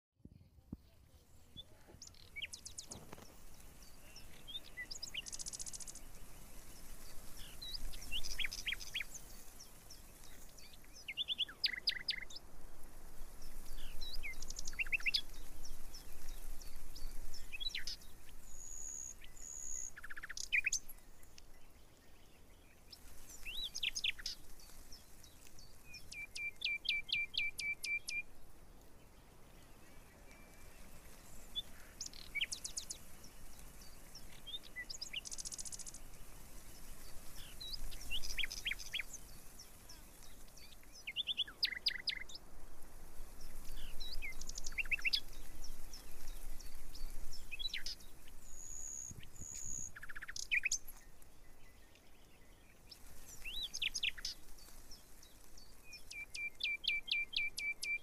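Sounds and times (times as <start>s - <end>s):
faint outdoor background noise: 0.2s - 58.0s
small birds chirping: 0.2s - 58.0s.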